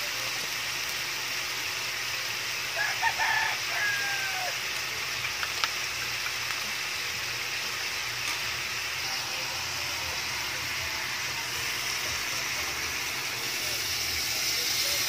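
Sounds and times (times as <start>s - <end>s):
beans sizzling in a wok: 0.0s - 15.0s.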